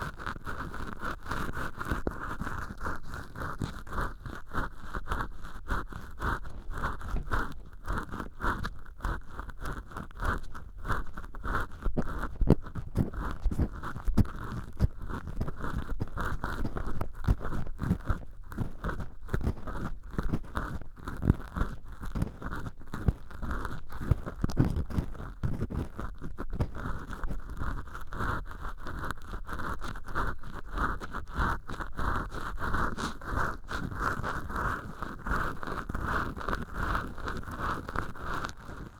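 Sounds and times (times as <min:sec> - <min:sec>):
cotton swab scratching in ear: 0:00.3 - 0:38.9.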